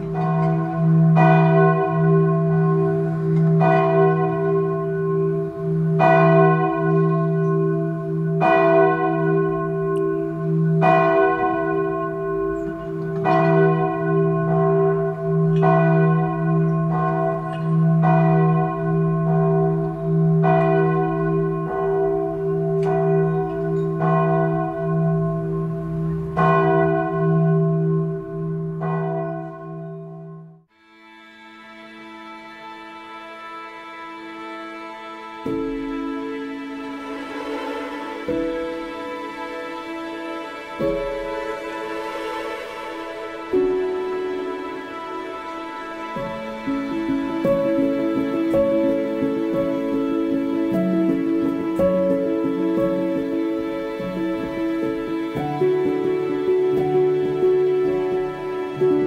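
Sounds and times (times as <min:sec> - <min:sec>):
large church bell tolling: 0:00.0 - 0:30.7, 0:35.4 - 0:59.0.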